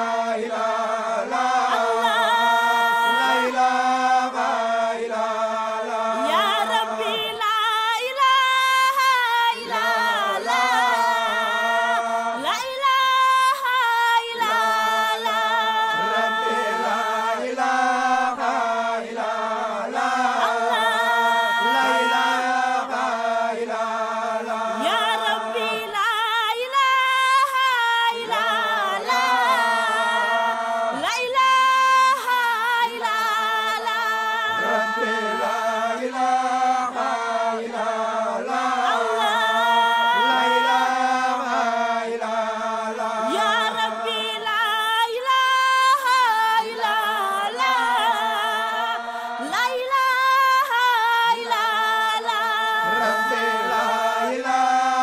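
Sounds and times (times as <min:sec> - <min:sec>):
men singing unaccompanied chant: 0:00.0 - 0:55.0.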